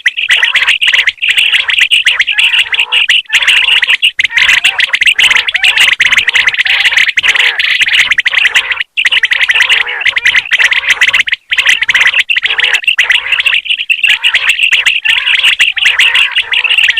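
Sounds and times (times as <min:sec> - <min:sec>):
chorus of quail calls: 0:00.0 - 0:16.9.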